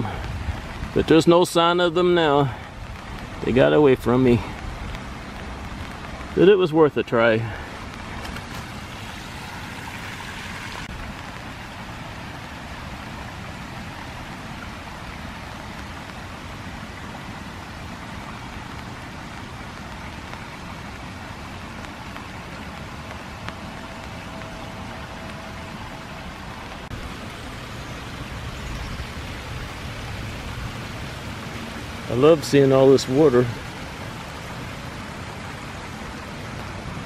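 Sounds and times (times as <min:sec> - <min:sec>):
creek running: 0:00.0 - 0:37.0
rain on leaf litter: 0:00.0 - 0:37.0.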